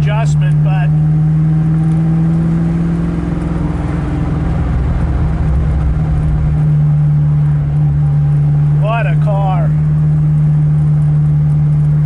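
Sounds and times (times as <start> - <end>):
car engine rumble from inside: 0.0 - 12.0.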